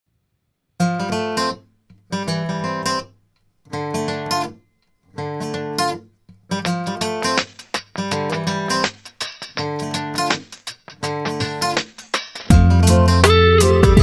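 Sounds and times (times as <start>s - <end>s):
acoustic guitar strumming: 0.8s - 14.0s.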